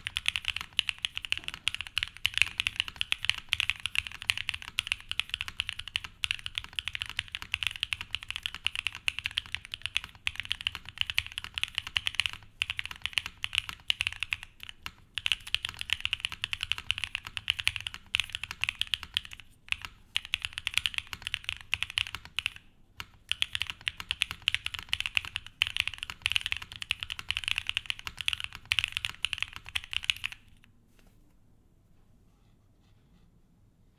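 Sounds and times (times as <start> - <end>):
typing on mechanical keyboard: 0.0 - 30.7.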